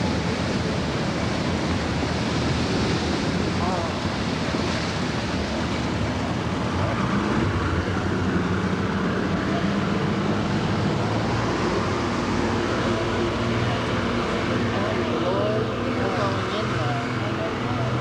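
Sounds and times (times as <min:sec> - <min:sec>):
boat engine drone: 0:00.0 - 0:18.0
rushing water: 0:00.0 - 0:18.0.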